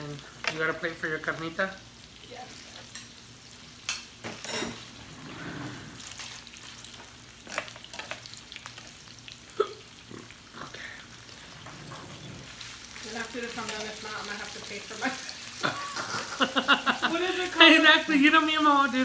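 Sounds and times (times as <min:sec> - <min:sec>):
meat sizzling on grill: 0:00.0 - 0:19.0.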